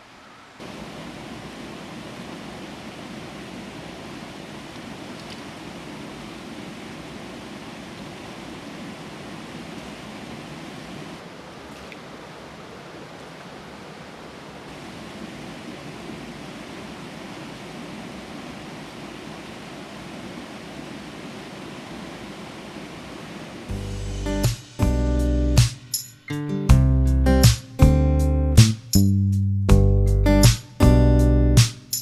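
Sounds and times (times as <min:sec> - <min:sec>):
river water rushing: 0:00.0 - 0:25.8.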